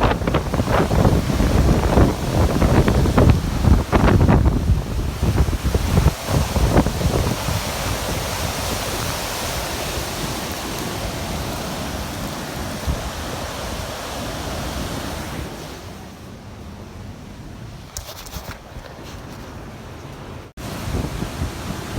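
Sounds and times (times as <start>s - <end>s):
wind buffeting microphone: 0.0s - 16.0s, 17.4s - 21.9s
wind and surf rushing: 0.0s - 21.9s.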